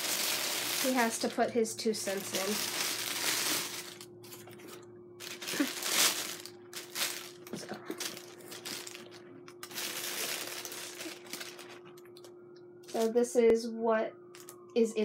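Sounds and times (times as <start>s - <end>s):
tissue paper crinkling: 0.0s - 12.2s.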